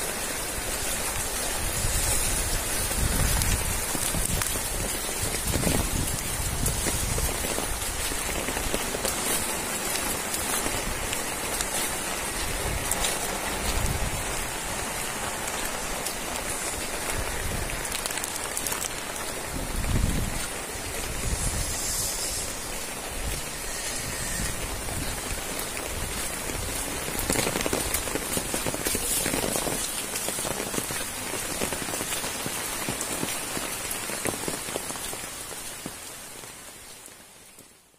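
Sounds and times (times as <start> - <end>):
heavy rain on water: 0.0 - 37.9.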